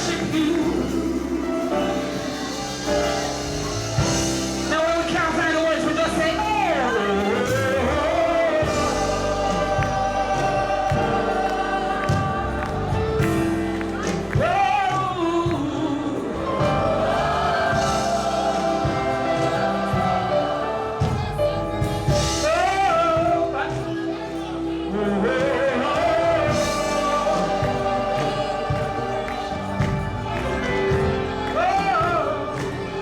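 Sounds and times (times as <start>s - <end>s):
gospel choir singing: 0.0s - 33.0s.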